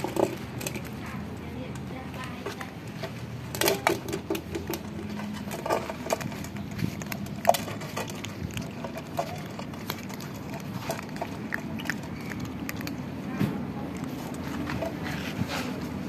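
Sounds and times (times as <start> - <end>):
cats crunching dry kibble: 0.0 - 16.0.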